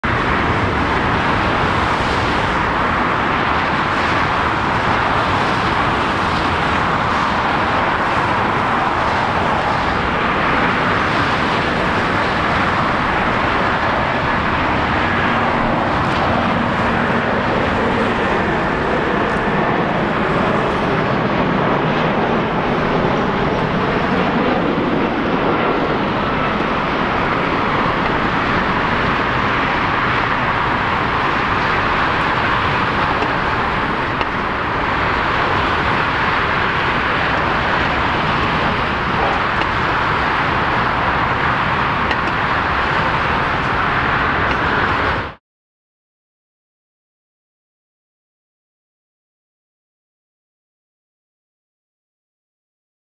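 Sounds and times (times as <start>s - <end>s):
jet aircraft noise: 0.0s - 45.4s.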